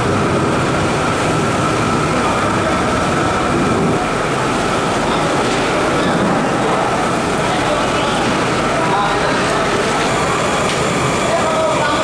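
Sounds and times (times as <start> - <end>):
loud machine rumbling: 0.0 - 12.0.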